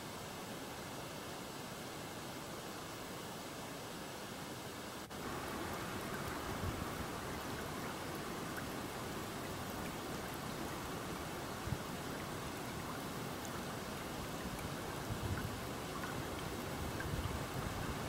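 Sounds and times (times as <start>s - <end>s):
creek flowing over stones: 0.0s - 18.0s.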